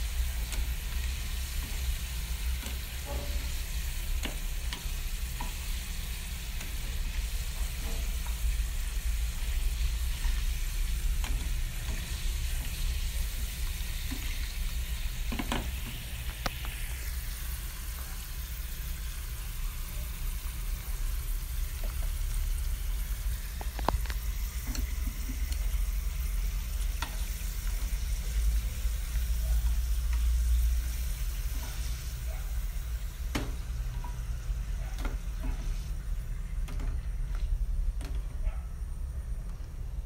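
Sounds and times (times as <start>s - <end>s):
potato slices sizzling in oil: 0.0s - 38.0s.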